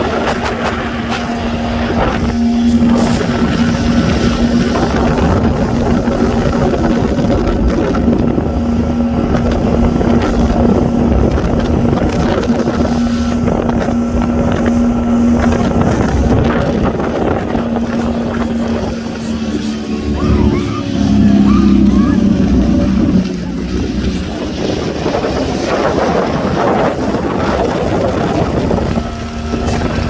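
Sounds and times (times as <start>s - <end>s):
speedboat engine running: 0.0s - 30.0s
water rushing: 0.0s - 30.0s
wind buffeting microphone: 0.0s - 30.0s.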